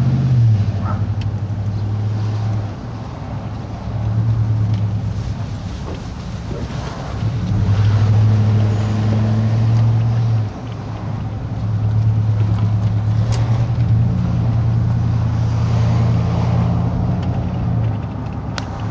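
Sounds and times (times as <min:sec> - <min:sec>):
car engine and road noise: 0:00.0 - 0:18.9.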